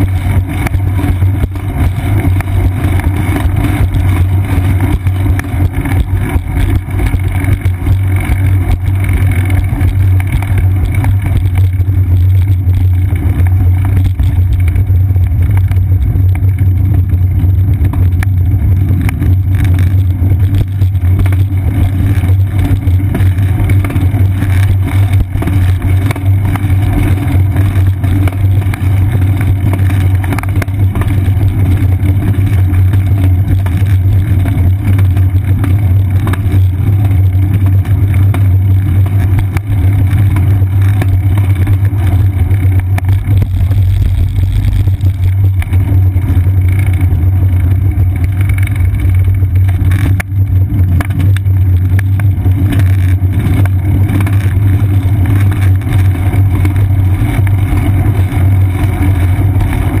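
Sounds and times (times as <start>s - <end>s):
wind and road rumble: 0.0s - 60.0s.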